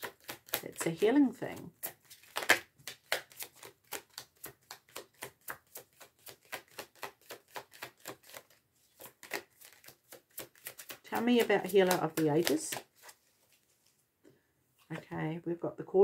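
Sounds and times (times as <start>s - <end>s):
cards being shuffled by hand: 0.0s - 14.0s.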